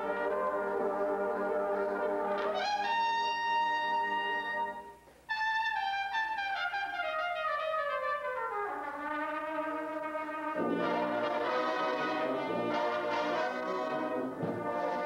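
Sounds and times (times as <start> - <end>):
brass band low notes: 0.0 - 15.0
solo trumpet high notes: 0.0 - 15.0.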